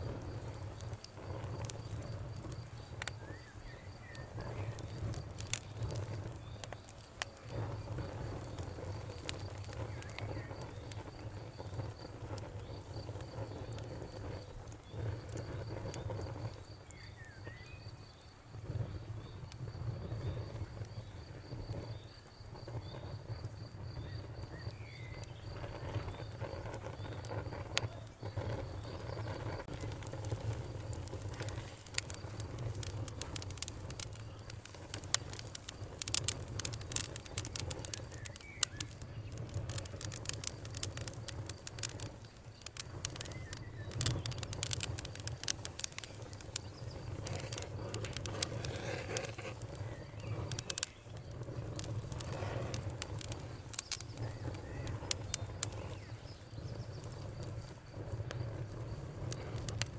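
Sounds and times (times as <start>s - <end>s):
campfire crackling and popping: 0.0s - 59.9s
cricket trilling: 0.0s - 59.9s
low rumble of burning: 0.0s - 59.9s.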